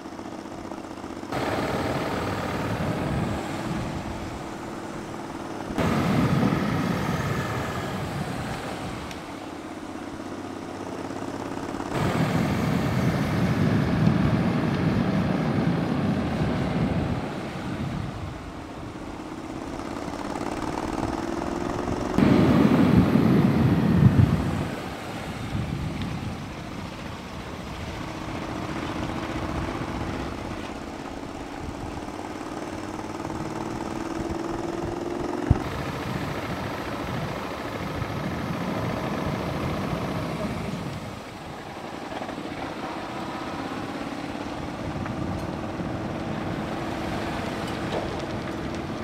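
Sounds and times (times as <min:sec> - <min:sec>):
steady hum: 0:00.0 - 0:49.0
wind rushing over microphone: 0:00.7 - 0:49.0.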